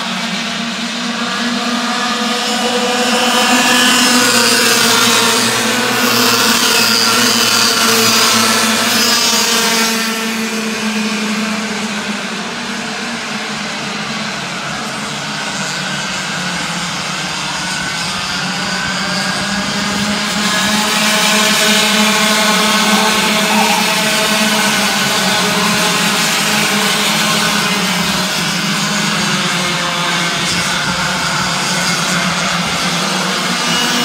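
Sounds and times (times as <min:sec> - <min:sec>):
kart engines whining: 0:00.0 - 0:34.0.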